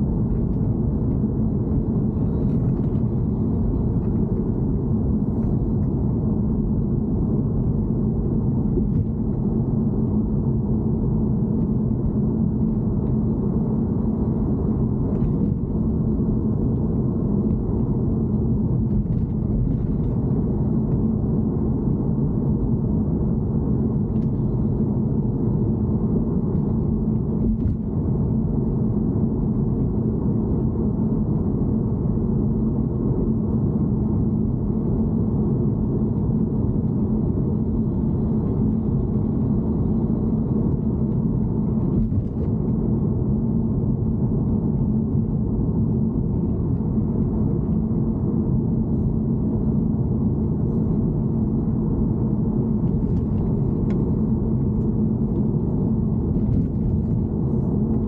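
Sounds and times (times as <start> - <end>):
car low rumble with hum: 0.0 - 58.0.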